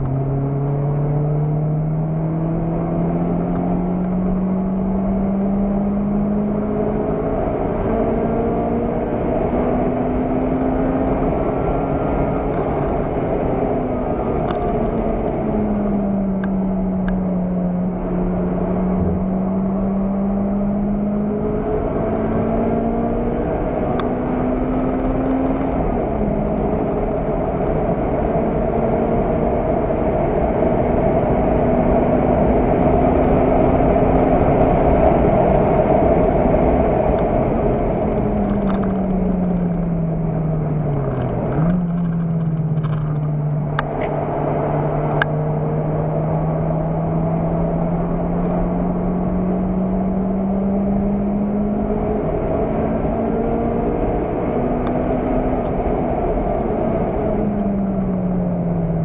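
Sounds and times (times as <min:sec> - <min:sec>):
car engine: 0:00.0 - 0:59.0
road and wind noise: 0:00.0 - 0:59.0.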